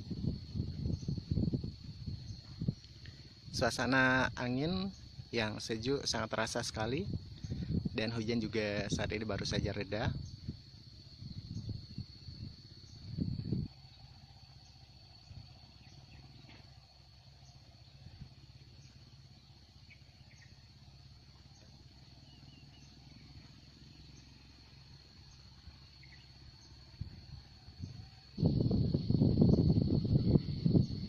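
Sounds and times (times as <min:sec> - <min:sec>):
insects droning: 0:00.0 - 0:31.0
low rumble: 0:00.0 - 0:31.0
short insect chirps: 0:00.0 - 0:31.0.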